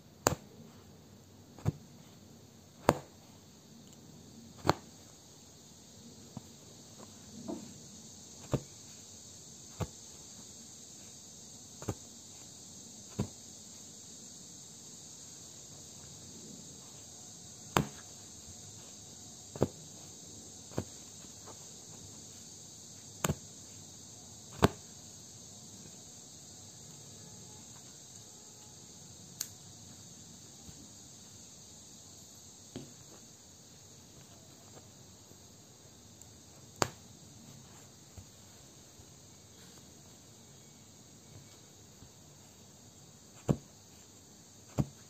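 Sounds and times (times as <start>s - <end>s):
faint high hiss: 0.0s - 45.0s.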